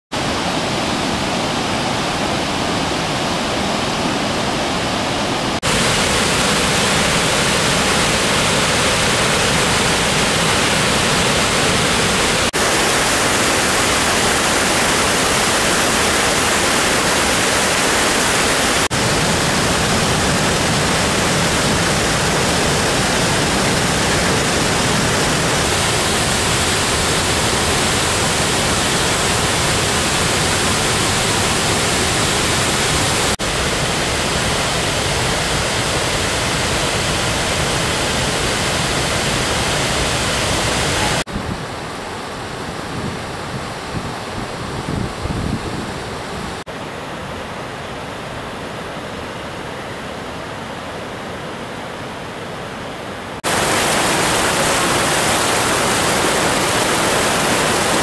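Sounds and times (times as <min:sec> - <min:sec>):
waterfall rushing: 0:00.2 - 0:58.0.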